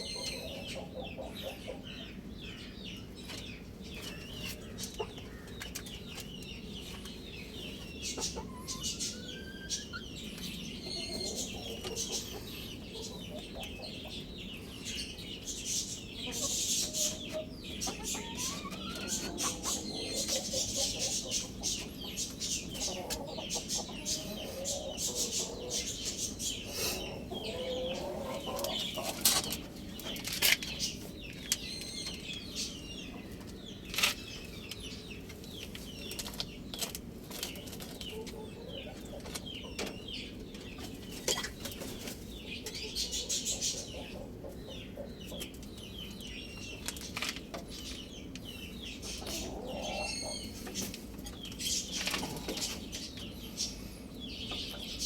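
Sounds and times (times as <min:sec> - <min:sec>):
chickens clucking: 0:00.0 - 0:55.0
small birds chirping: 0:00.0 - 0:55.0.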